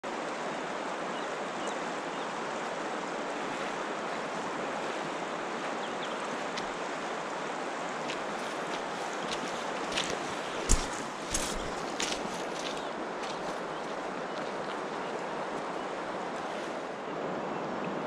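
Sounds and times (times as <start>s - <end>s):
river current rushing: 0.1s - 18.0s.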